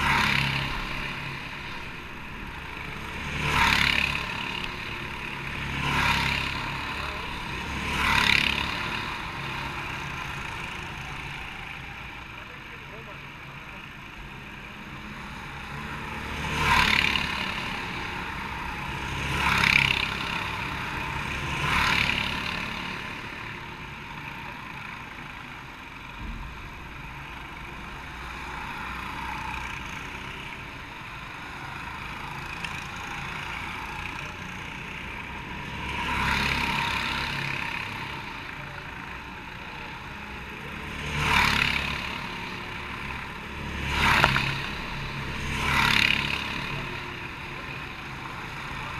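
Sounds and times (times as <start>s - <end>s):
go-kart engines running: 0.0s - 48.9s
karts passing close by: 0.0s - 48.9s.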